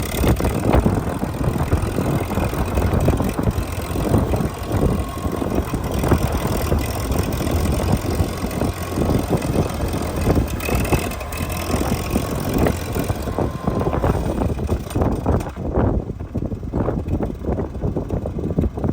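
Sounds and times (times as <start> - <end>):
tractor engine running: 0.0 - 18.9.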